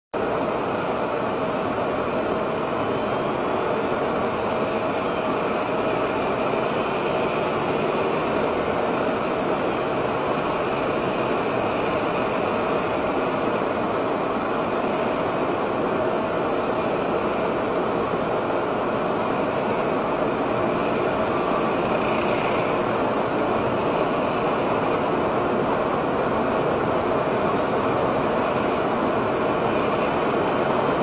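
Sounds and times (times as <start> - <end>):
faint constant hum: 0.3 - 31.0.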